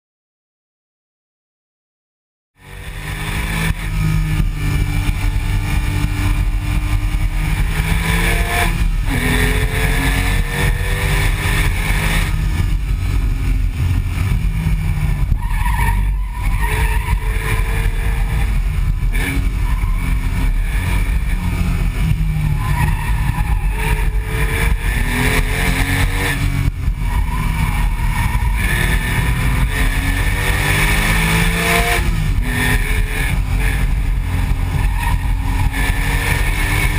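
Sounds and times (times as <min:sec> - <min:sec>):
car exhaust accelerating through gears: 0:02.6 - 0:36.9.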